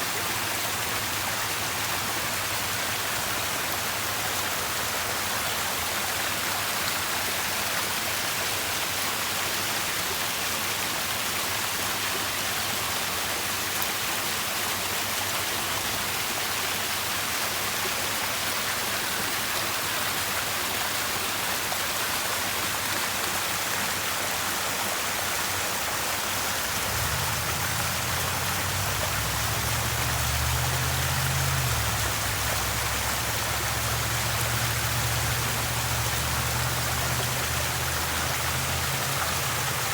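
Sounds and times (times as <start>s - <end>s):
water splashing in a fountain: 0.0s - 39.9s.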